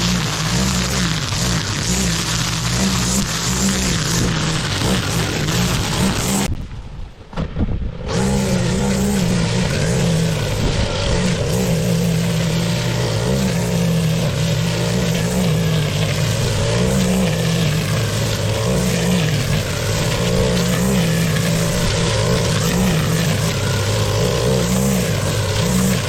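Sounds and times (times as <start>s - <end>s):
lawn mower engine running: 0.0s - 6.5s, 7.9s - 26.0s.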